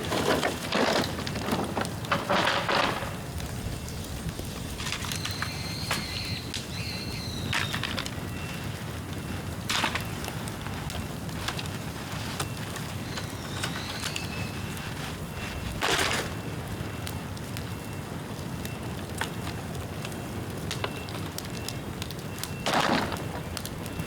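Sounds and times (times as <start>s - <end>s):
low rumble of flames: 0.0s - 24.0s
wet bamboo crackling: 0.0s - 24.0s.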